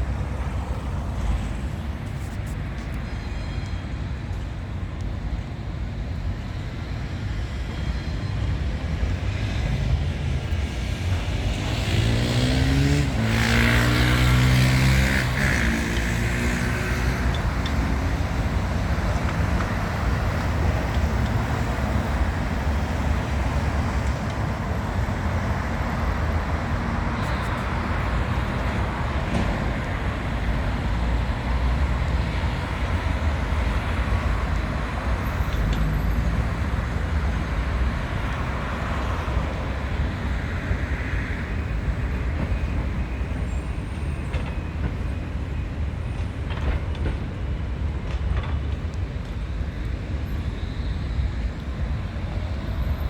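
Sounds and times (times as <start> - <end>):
street traffic passing: 0.0 - 53.0.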